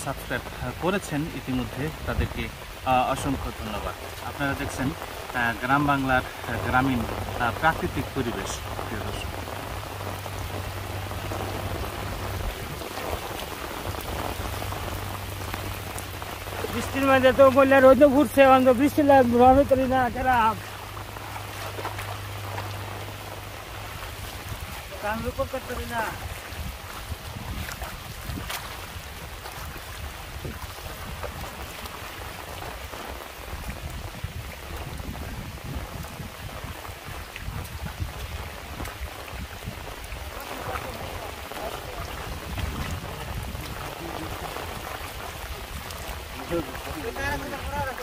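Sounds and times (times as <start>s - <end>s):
light rain falling: 0.0s - 48.0s
wind rumble on microphone: 0.0s - 48.0s.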